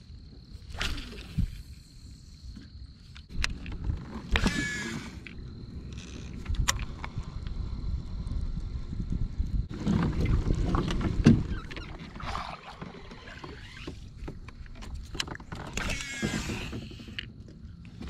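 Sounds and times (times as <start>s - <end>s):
constant low rumble: 0.0s - 18.0s.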